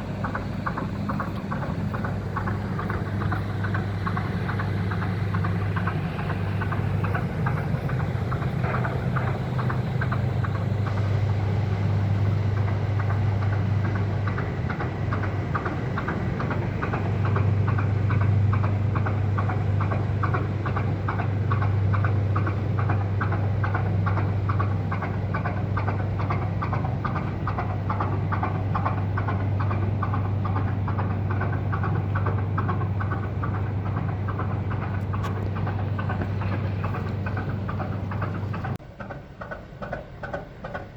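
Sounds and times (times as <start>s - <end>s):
marine diesel engine knocking: 0.0s - 40.9s.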